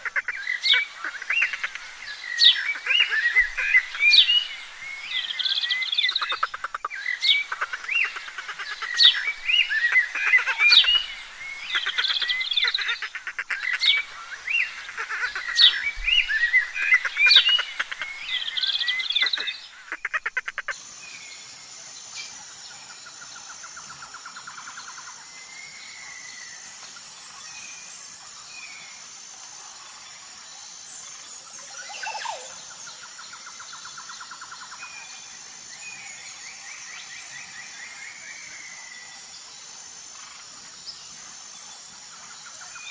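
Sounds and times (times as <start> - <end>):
small songbirds chirping: 0.0 - 42.9.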